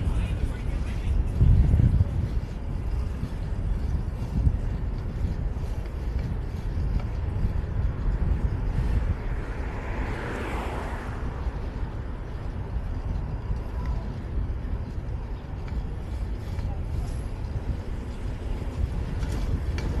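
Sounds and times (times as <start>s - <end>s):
vehicle passing: 0.0s - 20.0s
wind on microphone: 0.0s - 20.0s.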